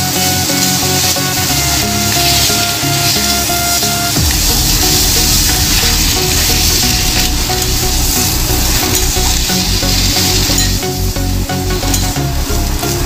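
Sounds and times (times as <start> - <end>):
vegetable mash sizzling: 0.0 - 13.0.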